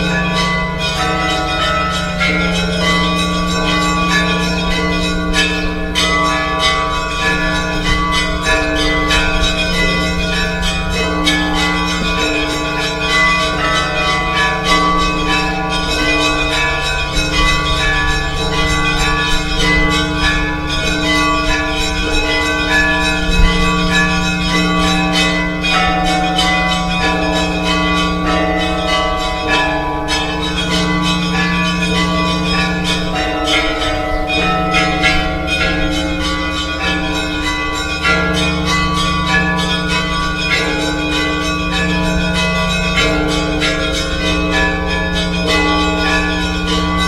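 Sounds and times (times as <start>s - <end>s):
church bells ringing: 0.0s - 47.0s.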